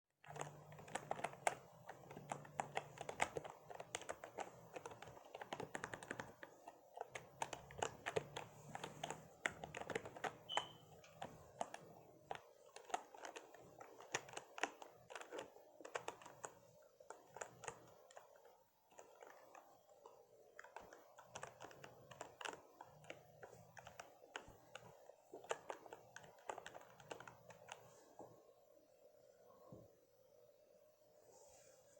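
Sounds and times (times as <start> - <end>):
computer keyboard typing: 0.2 - 28.0.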